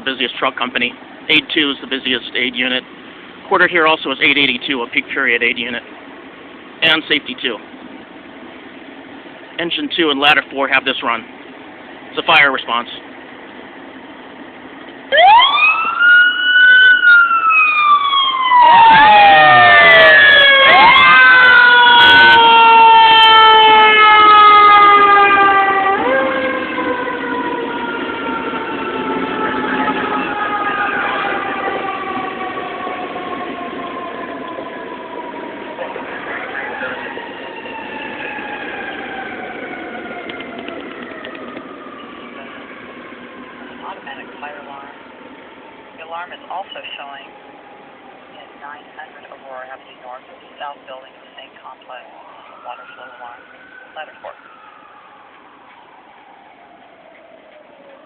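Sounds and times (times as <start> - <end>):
fire sirens wailing: 0.0 - 58.0.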